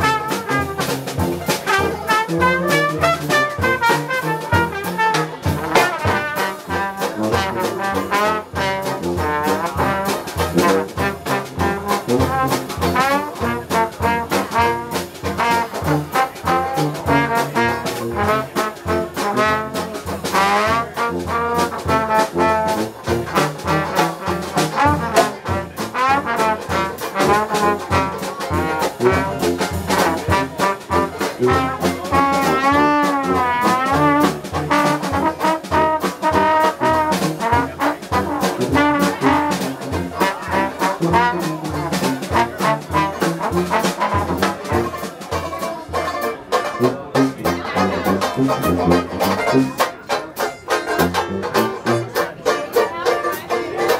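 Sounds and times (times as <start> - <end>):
dixieland jazz band: 0.0 - 53.9
trombone: 0.0 - 53.9.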